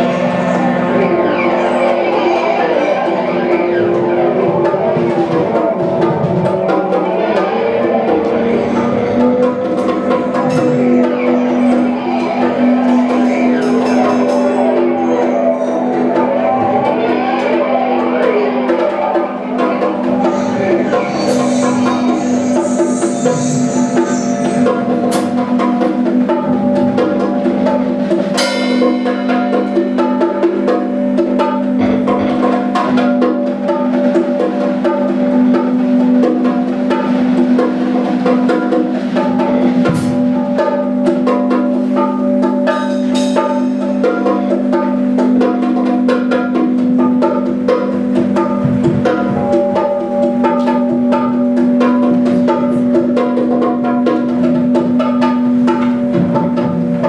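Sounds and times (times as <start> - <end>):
drums and hand percussion: 0.0 - 57.0
low keyboard drone: 0.0 - 57.0.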